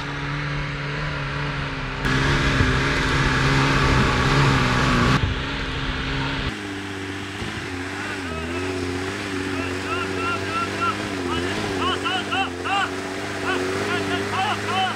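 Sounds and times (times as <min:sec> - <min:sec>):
off-road engine running: 0:00.0 - 0:14.9.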